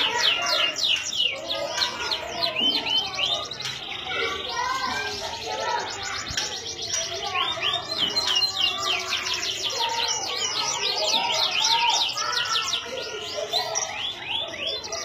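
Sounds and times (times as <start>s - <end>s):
canary singing with trills: 0.0s - 15.0s.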